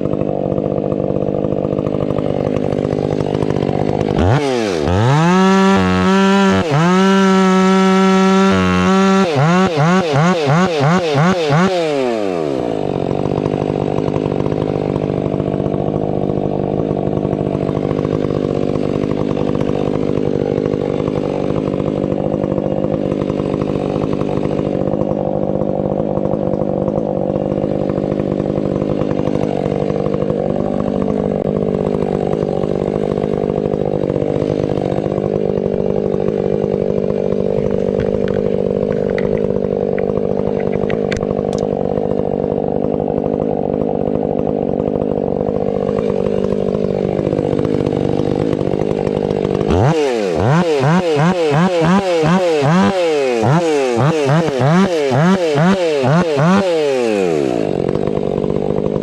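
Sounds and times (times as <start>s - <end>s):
chainsaw running hard: 0.0s - 59.0s.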